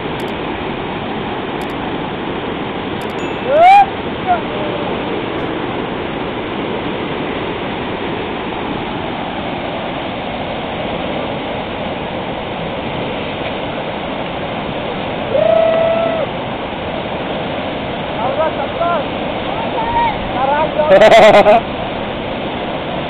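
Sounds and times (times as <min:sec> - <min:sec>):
whitewater rapids rushing: 0:00.1 - 0:23.0.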